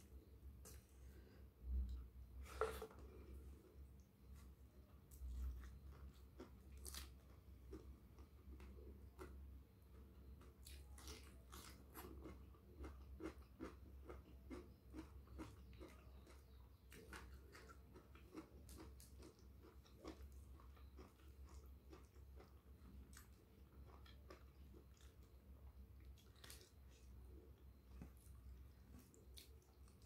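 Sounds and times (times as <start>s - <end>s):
low steady hum: 0.0s - 30.0s
person chewing and smacking: 5.1s - 30.0s.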